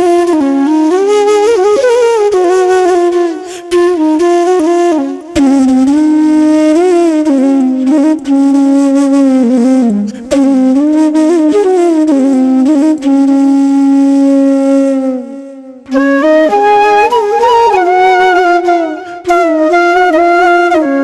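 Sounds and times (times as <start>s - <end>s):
flute melody: 0.0s - 21.0s.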